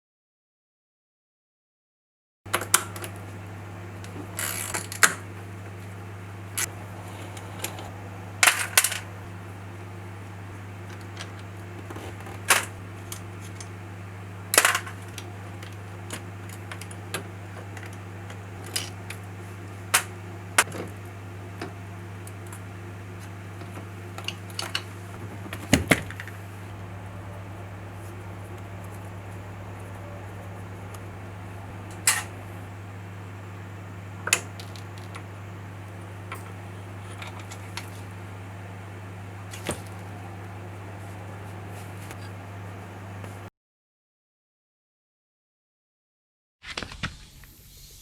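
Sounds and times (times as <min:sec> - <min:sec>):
steady low hum: 0:02.5 - 0:43.5.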